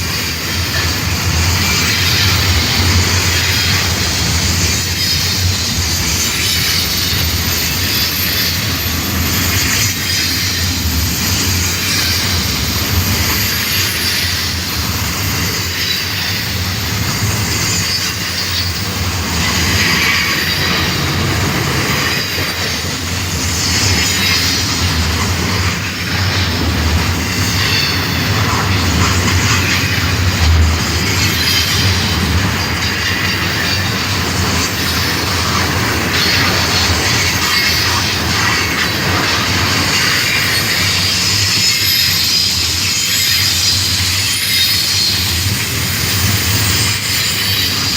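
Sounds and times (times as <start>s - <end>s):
train rumble and clickety-clack: 0.0s - 47.9s
train wheels squealing: 0.0s - 47.9s.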